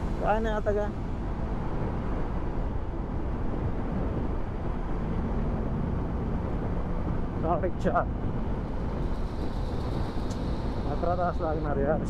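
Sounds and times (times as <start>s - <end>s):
road noise: 0.0s - 12.0s
wind rushing: 0.0s - 12.0s.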